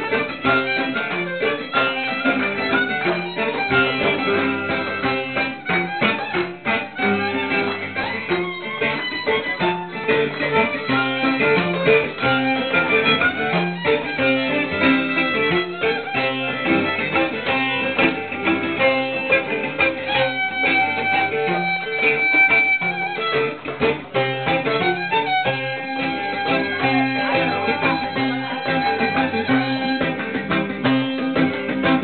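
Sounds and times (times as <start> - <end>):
plucked-string accompaniment: 0.0 - 32.0
violin melody: 0.0 - 32.0.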